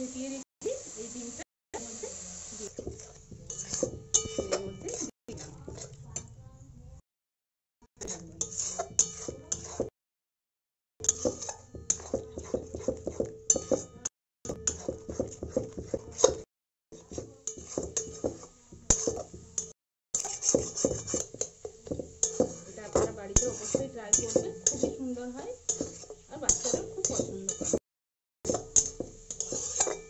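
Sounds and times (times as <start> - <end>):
metal spatula scraping a pan: 1.8 - 6.3, 8.0 - 10.0, 11.0 - 27.8, 28.4 - 30.0.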